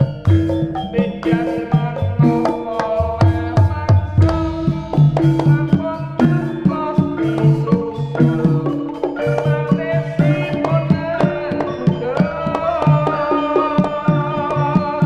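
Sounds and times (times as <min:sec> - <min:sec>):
hand drums beating: 0:00.0 - 0:15.0
ringing gamelan metallophones: 0:00.0 - 0:15.0.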